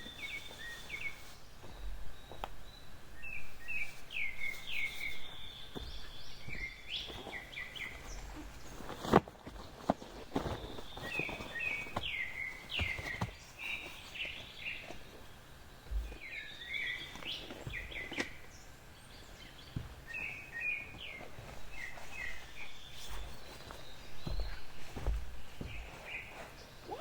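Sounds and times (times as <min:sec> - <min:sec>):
small songbirds chirping: 0:00.0 - 0:27.0.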